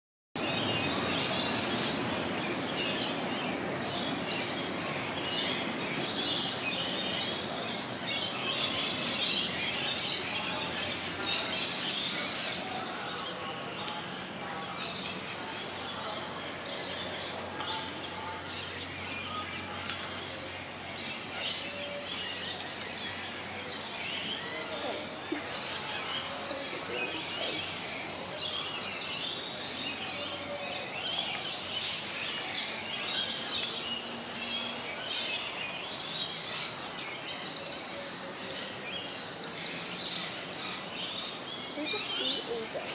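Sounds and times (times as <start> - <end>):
birds chirping and calling: 0.4 - 42.9
outdoor background hiss: 0.4 - 42.9.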